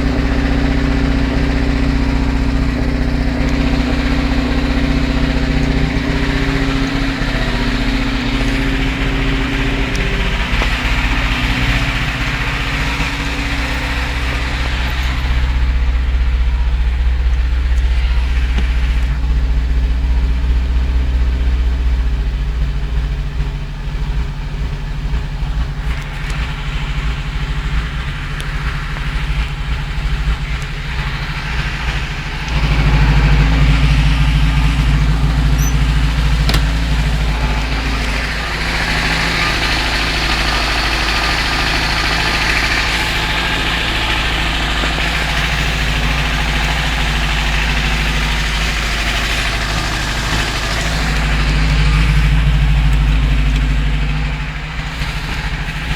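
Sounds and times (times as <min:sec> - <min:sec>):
knocking petrol engine running: 0:00.0 - 0:55.9.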